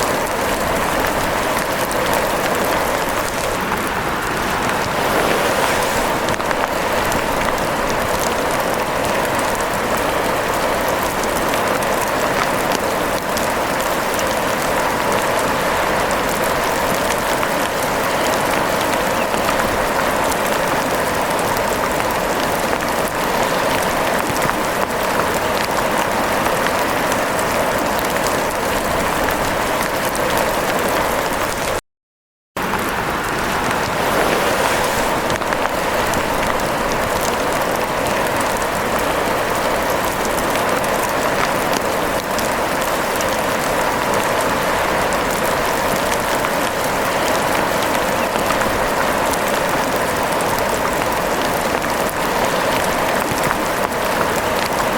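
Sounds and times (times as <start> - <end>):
heavy rain: 0.0 - 31.8, 32.6 - 54.9.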